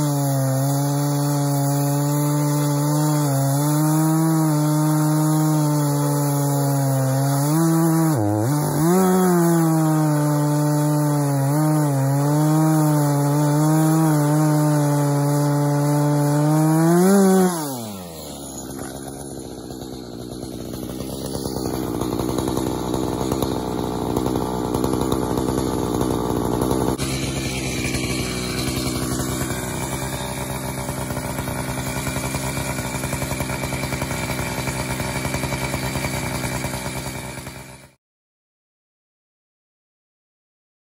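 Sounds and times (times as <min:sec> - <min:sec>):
chainsaw cutting through a log: 0:00.0 - 0:38.0.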